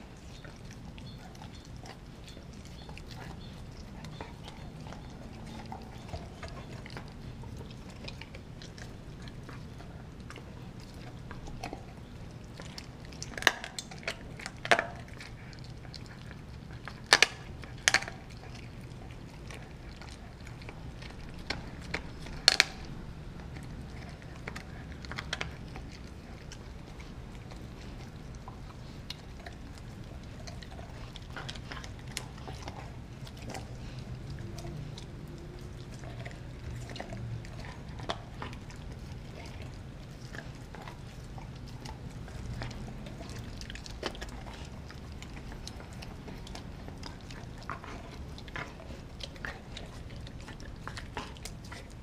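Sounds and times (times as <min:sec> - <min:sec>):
dog gnawing on bone: 0:00.0 - 0:52.0
steady low hum: 0:00.0 - 0:52.0.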